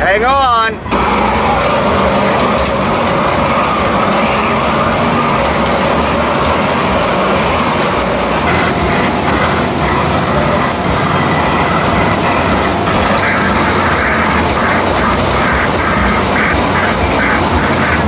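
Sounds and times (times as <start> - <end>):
kiddie ride mechanical rumble: 0.0 - 18.0.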